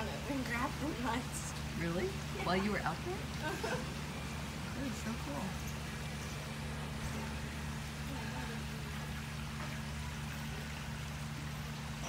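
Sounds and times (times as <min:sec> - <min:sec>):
low steady hum: 0:00.0 - 0:12.0
water trickling: 0:00.0 - 0:12.0.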